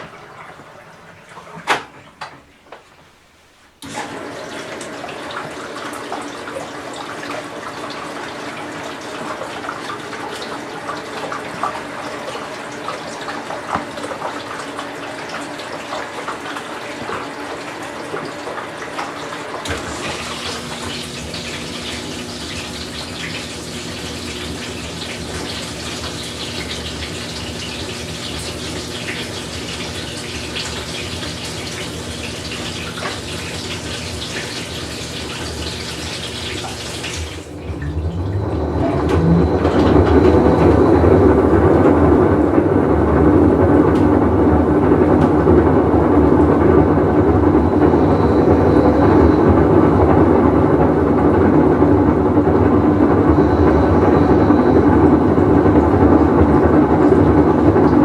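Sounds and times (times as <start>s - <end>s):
washer filling with water: 0.0s - 58.0s
washer tub running noise: 0.0s - 58.0s.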